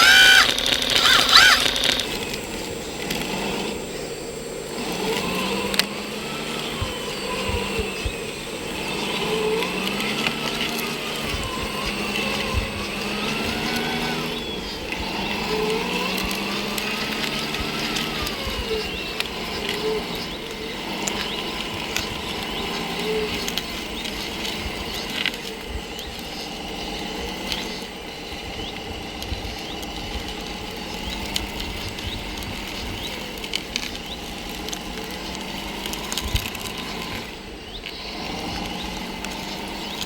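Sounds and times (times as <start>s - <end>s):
small electric motors whining: 0.0s - 40.0s.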